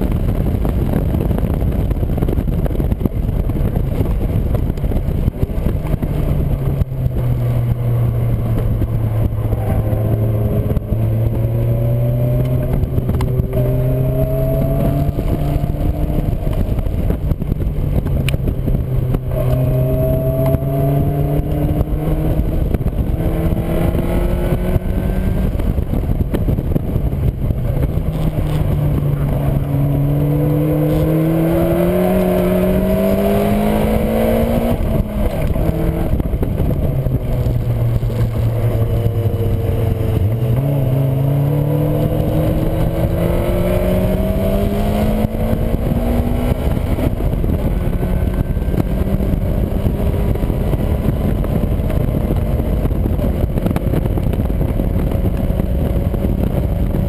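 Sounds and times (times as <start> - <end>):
car engine revving: 0.0 - 57.0
wind rush: 0.0 - 57.0.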